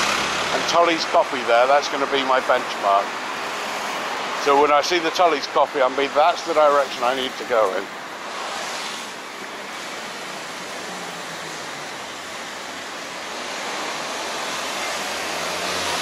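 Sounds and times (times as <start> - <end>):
road traffic hiss: 0.0 - 16.0
vehicle approaching: 0.0 - 16.0.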